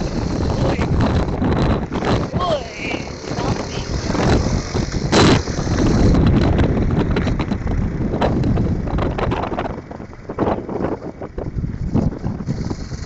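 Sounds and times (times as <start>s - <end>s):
motorcycle rumble: 0.0s - 13.0s
wind buffeting microphone: 0.0s - 13.0s.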